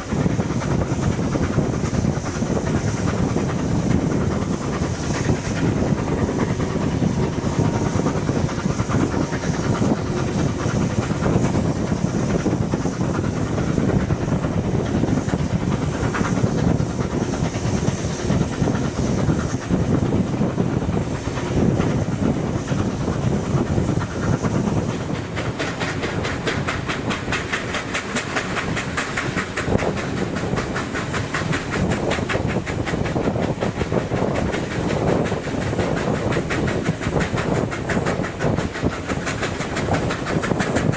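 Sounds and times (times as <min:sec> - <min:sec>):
steam hiss: 0:00.0 - 0:40.9
steam locomotive rumble: 0:00.0 - 0:40.9
wheels clattering on rail: 0:00.0 - 0:40.9.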